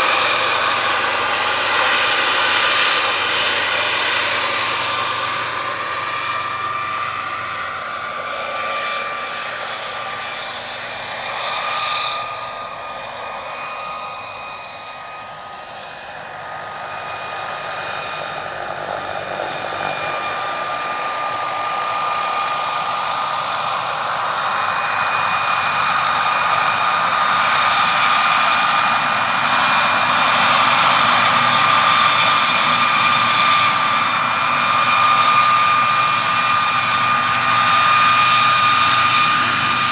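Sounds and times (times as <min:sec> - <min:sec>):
helicopter rotor noise: 0:00.0 - 0:39.9
model turbine engine whine: 0:00.0 - 0:39.9.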